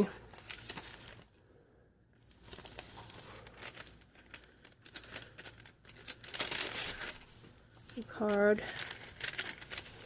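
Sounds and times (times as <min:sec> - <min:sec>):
paper pages rustling: 0:00.2 - 0:01.3, 0:02.2 - 0:10.0.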